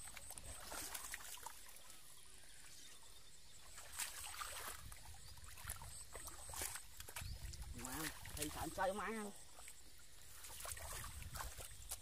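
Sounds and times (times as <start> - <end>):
splashes in muddy water: 0.0 - 2.8, 3.6 - 12.0.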